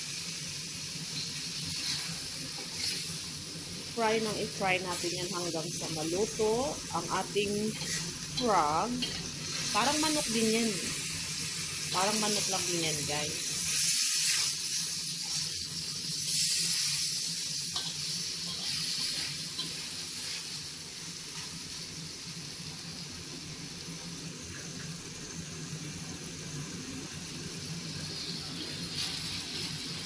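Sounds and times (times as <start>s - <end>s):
meat sizzling in hot oil: 0.0s - 30.0s.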